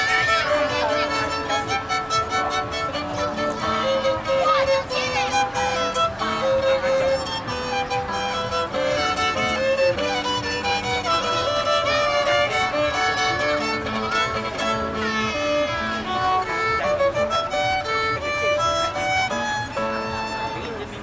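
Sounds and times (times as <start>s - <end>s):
solo violin melody: 0.0s - 21.0s.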